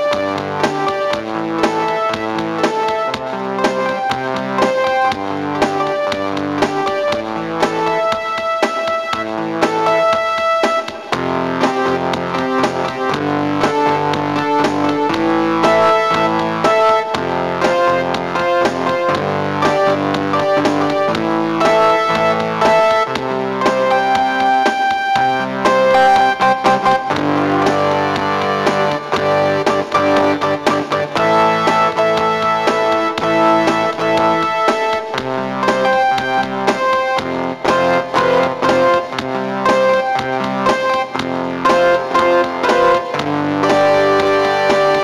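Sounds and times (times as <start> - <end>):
electric piano and keyboards music: 0.0 - 45.0.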